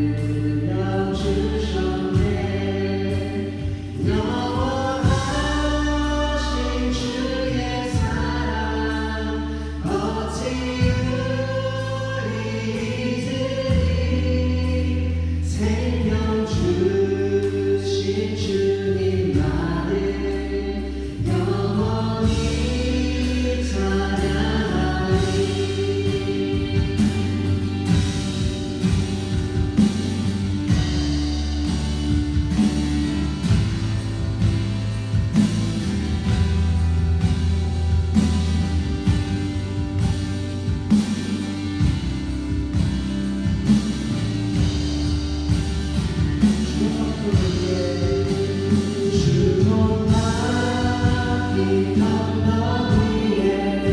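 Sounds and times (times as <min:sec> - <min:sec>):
congregation singing a worship song: 0:00.0 - 0:53.9.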